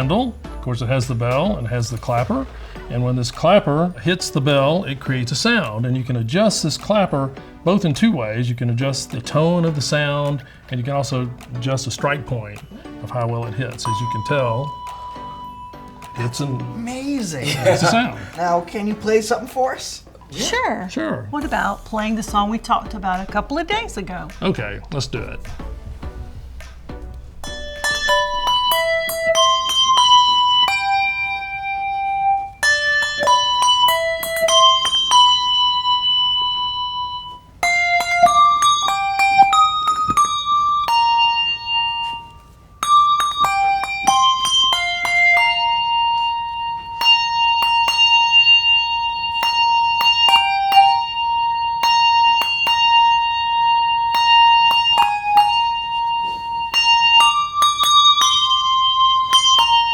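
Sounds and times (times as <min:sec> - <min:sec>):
handbells playing a melody: 0:00.0 - 0:18.4, 0:21.4 - 0:59.9.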